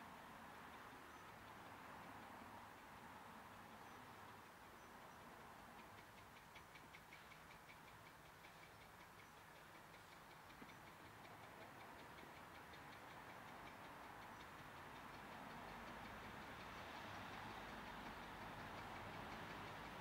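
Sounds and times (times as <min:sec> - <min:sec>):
distant steam locomotive: 0:00.0 - 0:20.0
faint quick ticking: 0:00.6 - 0:20.0.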